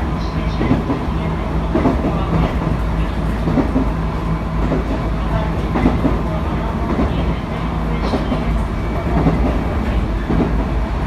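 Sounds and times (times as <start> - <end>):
electric train humming: 0.0 - 11.0.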